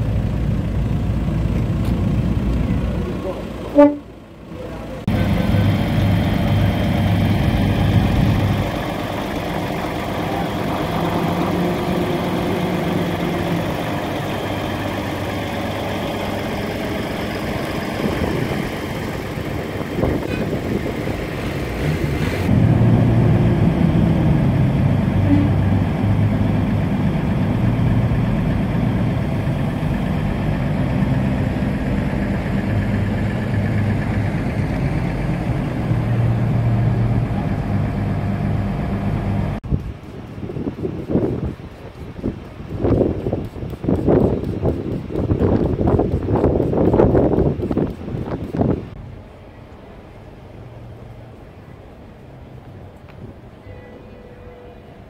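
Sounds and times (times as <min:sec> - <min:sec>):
engine idling: 0:00.0 - 0:52.6.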